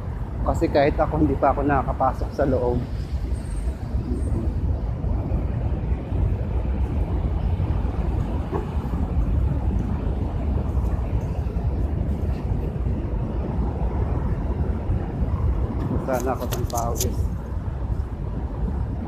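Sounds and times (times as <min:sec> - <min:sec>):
street noise rumble: 0:00.0 - 0:19.0.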